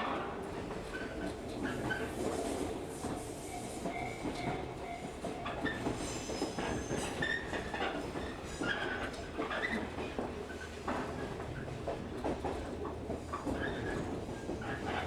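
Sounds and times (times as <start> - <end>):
train wheels rumbling on rails: 0.1 - 15.0.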